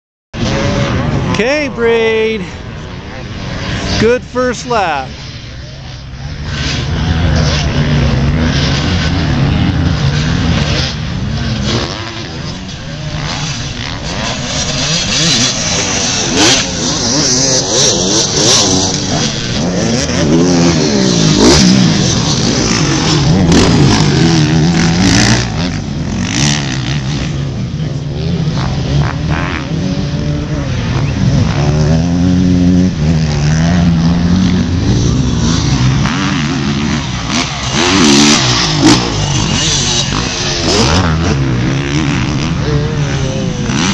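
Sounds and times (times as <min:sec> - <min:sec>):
motocross bike engines revving: 0:00.4 - 0:43.9.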